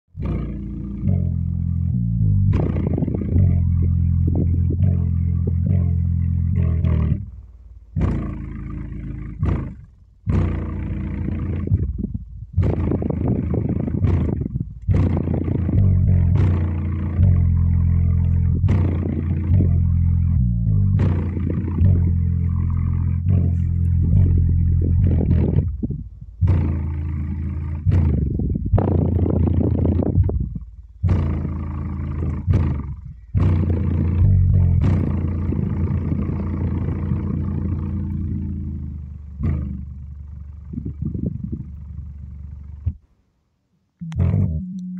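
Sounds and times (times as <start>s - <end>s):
subwoofer playing deep bass: 0.1s - 43.0s, 44.0s - 44.9s.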